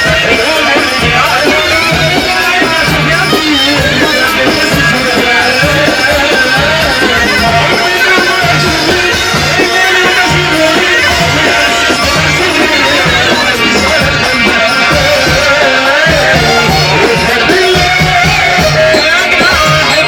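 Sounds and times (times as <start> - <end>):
loud music with bass beat: 0.0 - 20.0.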